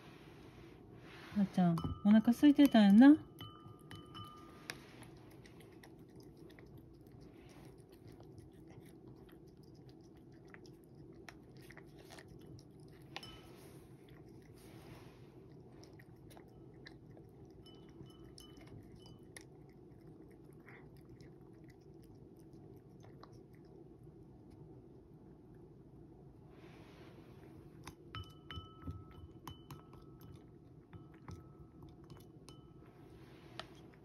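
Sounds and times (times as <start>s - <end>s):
steady low hum: 0.0s - 34.0s
cat chewing: 3.4s - 25.7s, 27.4s - 32.5s.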